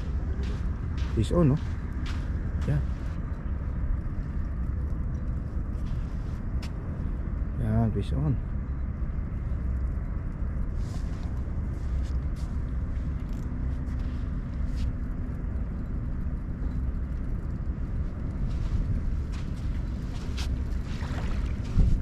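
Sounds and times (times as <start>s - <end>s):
faint steady hum: 0.0s - 22.0s
low outdoor rumble: 0.0s - 22.0s.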